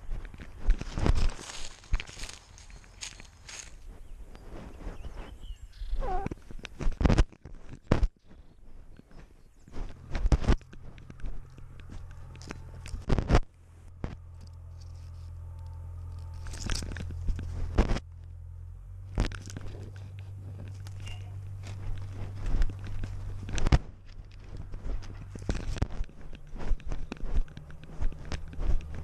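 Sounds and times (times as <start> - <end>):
steady low hum: 0.0 - 29.0
twigs crunching and scraping: 0.0 - 29.0.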